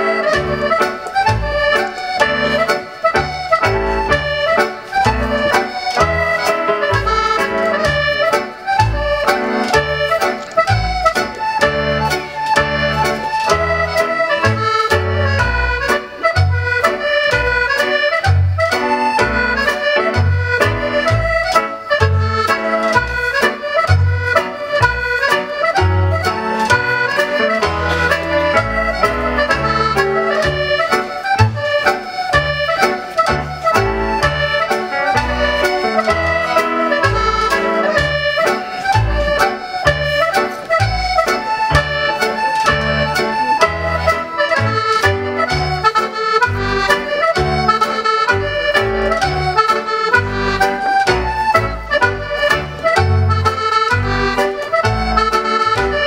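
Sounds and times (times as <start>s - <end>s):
accordion dance music: 0.0s - 56.0s.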